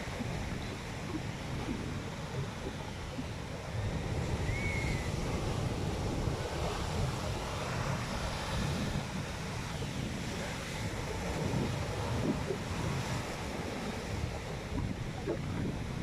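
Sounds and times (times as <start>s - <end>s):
sea surf washing: 0.0s - 16.0s
wind buffeting microphone: 0.0s - 16.0s.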